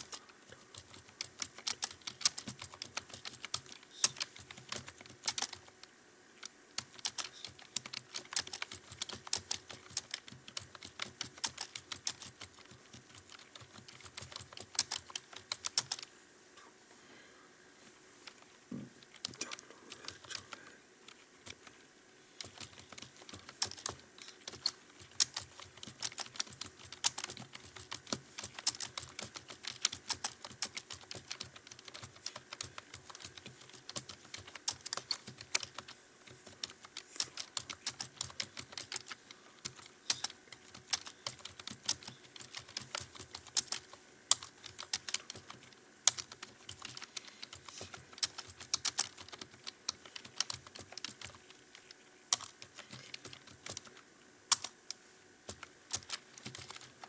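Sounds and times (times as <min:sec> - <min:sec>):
fast typing on keyboard: 0:00.0 - 0:16.1, 0:19.0 - 0:21.7, 0:22.4 - 0:57.0.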